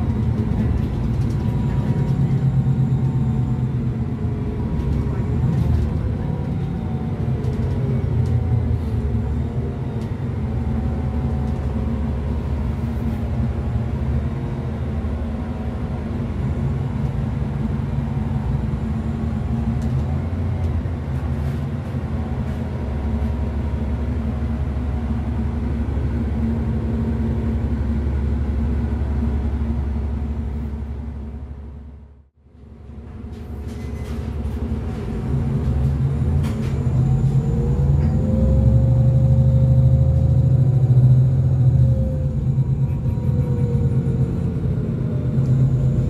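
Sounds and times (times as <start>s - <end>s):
bus engine droning: 0.0s - 46.0s.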